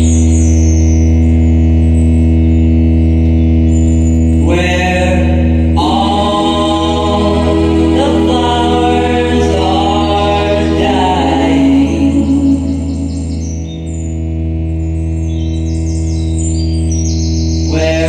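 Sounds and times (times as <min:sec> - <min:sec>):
bagpipe drones: 0:00.0 - 0:18.0.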